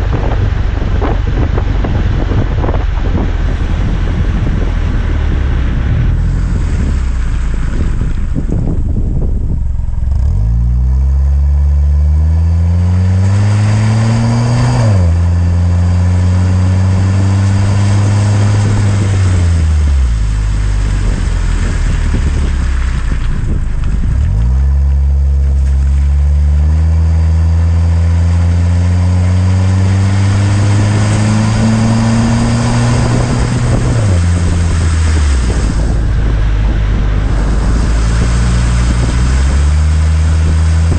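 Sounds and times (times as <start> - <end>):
car exhaust accelerating: 0.0 - 40.9.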